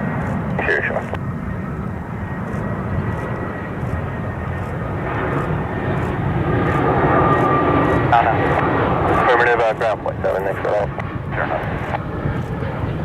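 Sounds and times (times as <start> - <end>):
jet engine whine: 0.0 - 13.0
jet engines rumbling: 0.0 - 13.0.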